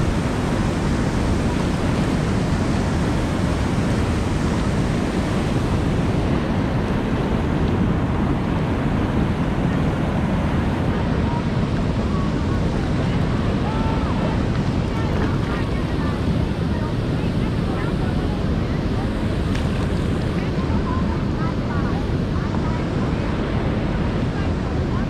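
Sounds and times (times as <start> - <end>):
water rushing: 0.0 - 25.0
wind on microphone: 0.0 - 25.0.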